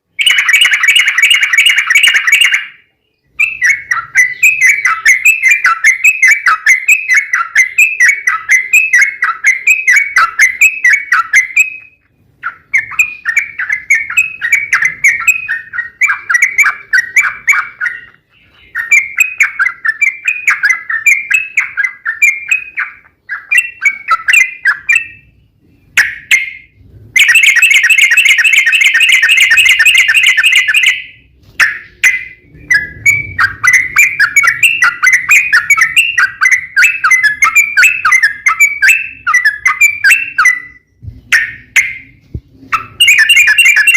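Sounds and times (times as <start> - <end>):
bulbul chattering song: 0.1 - 43.9.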